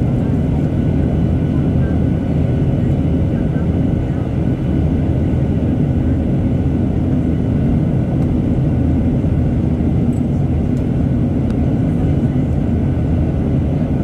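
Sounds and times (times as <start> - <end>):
airplane engine rumble in cabin: 0.0 - 14.0.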